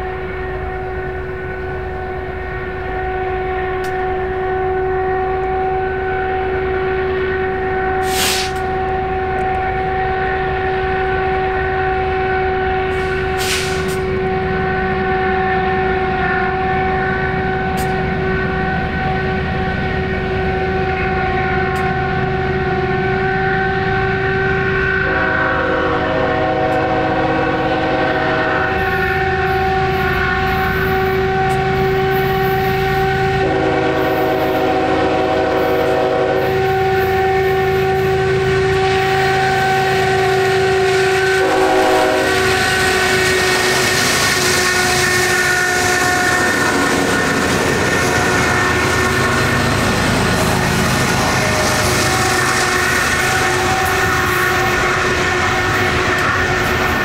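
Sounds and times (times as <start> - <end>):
diesel locomotives passing: 0.0 - 57.0
train horn chord: 0.0 - 57.0.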